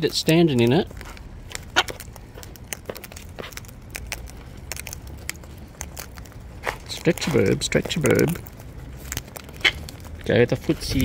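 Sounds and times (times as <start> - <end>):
birds cracking seeds: 0.0 - 11.0.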